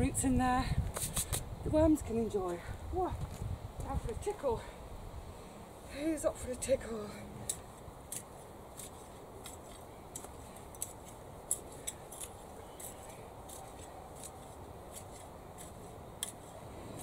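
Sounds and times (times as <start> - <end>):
low outdoor hiss: 0.0 - 17.0.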